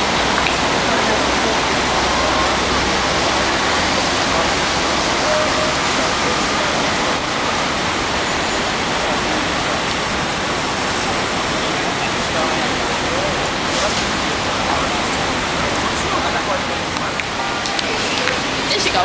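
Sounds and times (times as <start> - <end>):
city street traffic roar: 0.0 - 19.0.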